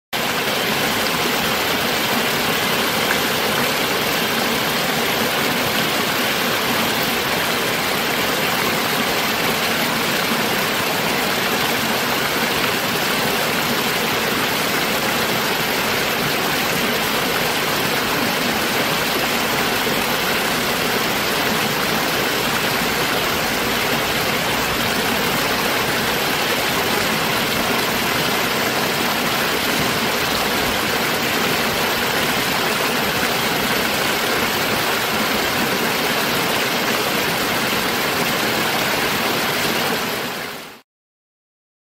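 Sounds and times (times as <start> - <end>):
stream splashing over rocks: 0.2 - 40.8.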